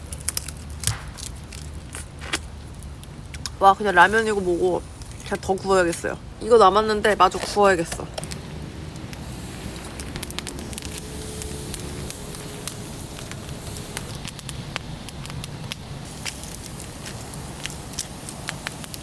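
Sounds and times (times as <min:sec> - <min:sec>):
fire crackling: 0:00.0 - 0:19.0
fire popping: 0:00.0 - 0:19.0
low fire rumble: 0:00.0 - 0:19.0.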